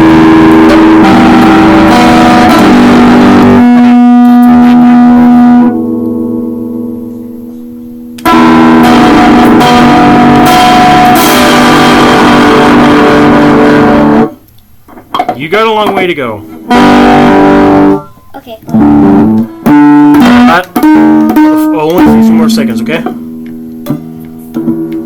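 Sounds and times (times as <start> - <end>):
distorted electric guitar chords: 0.0 - 25.0.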